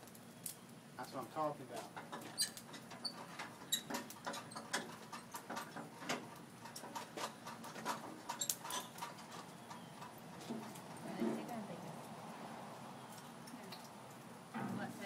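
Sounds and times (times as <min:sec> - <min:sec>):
leaf fire crackling: 0:00.0 - 0:15.0.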